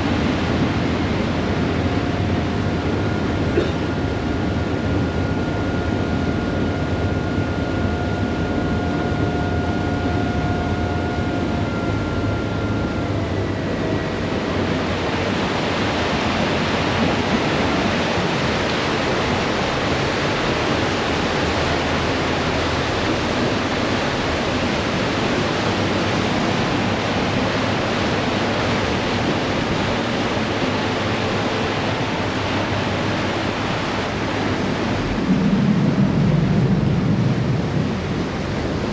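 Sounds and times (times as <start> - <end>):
ferry engine hum: 0.0 - 38.9
steady whine: 0.0 - 38.9
water rushing behind boat: 0.0 - 38.9.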